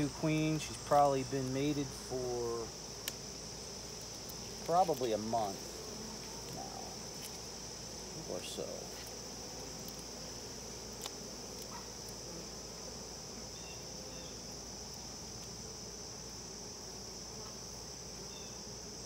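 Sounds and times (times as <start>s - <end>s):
high-pitched insect trill: 0.0s - 19.0s
honey bees humming: 0.0s - 19.0s.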